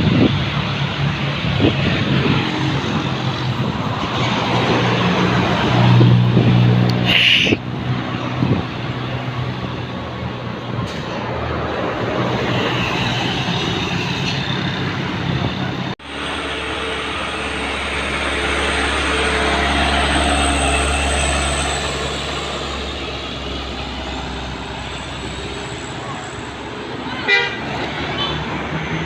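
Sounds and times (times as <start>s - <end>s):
bus diesel engine passing: 0.0s - 29.0s.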